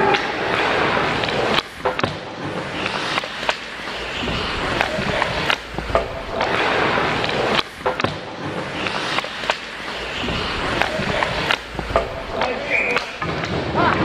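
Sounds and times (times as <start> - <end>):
skate blades scraping on ice: 0.0 - 13.8
hockey sticks clacking: 0.0 - 14.0.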